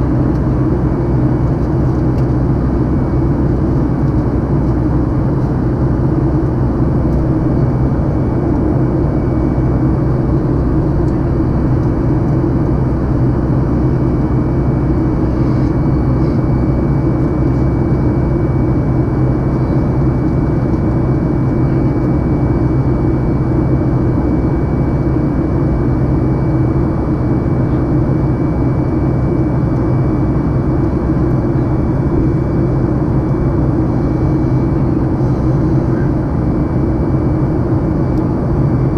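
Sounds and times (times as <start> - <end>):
jet engine and airflow rush: 0.0 - 38.9.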